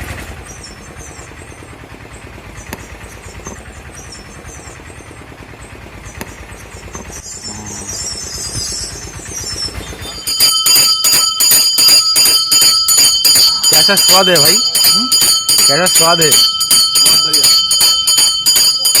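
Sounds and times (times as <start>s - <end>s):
street noise: 0.0s - 19.0s
vehicle engine rumbling: 0.0s - 19.0s.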